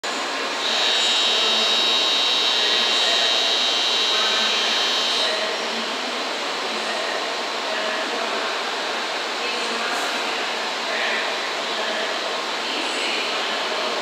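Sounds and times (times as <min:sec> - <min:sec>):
station noise: 0:00.0 - 0:14.0.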